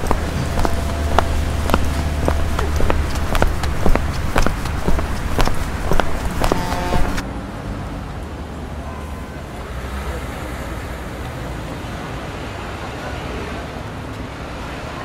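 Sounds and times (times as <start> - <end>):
low rumble of passing vehicles: 0.0 - 15.0.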